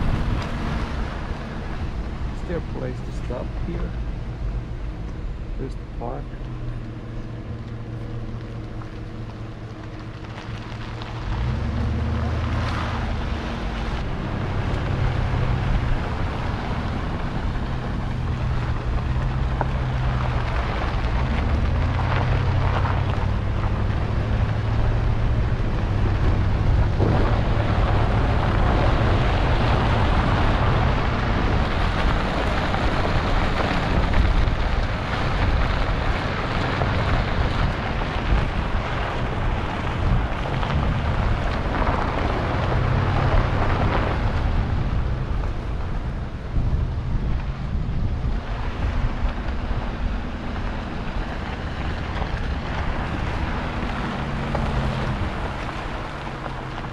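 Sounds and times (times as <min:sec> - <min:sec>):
road and wind noise: 0:00.0 - 0:56.9
truck engine running: 0:00.0 - 0:56.9.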